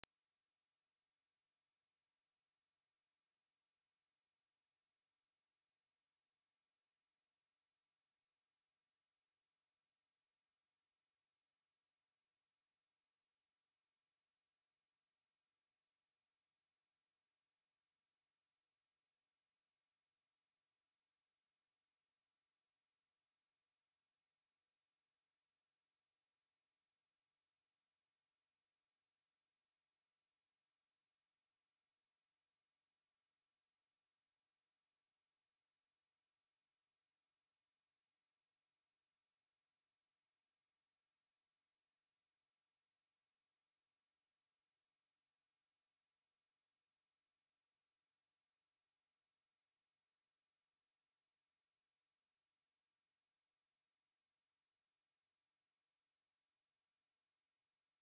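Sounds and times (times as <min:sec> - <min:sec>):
high-pitched sine test tone: 0:00.0 - 0:58.0.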